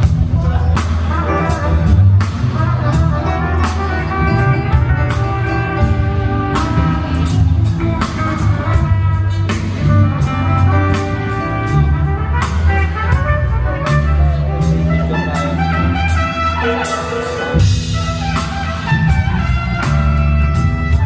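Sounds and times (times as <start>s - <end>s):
bass guitar: 0.0s - 21.0s
drum kit steady beat: 0.0s - 21.0s.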